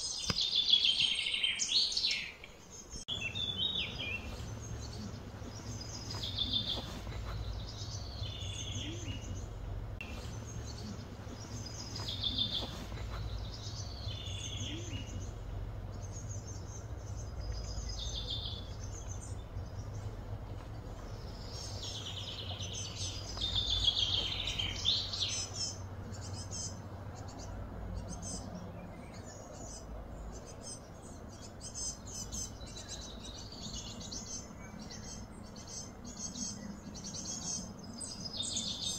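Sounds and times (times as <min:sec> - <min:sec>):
birds calling: 0:00.0 - 0:38.9
steady low hum: 0:02.7 - 0:38.9.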